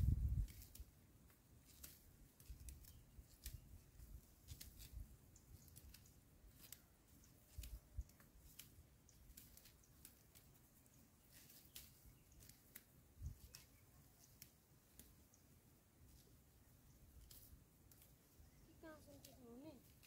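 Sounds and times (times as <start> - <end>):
dry stalks snipping: 0.0 - 15.4, 16.1 - 16.3, 17.0 - 20.0.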